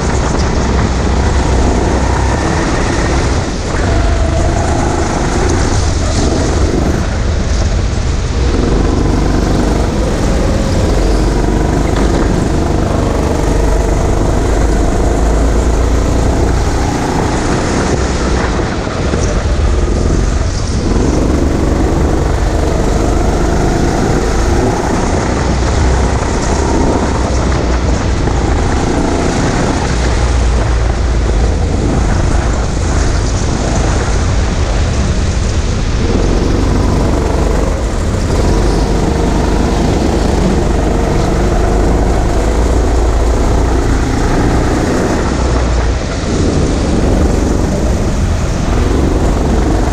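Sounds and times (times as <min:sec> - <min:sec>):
go-kart motor: 0:00.0 - 0:49.9
heavy low rumble: 0:00.0 - 0:49.9.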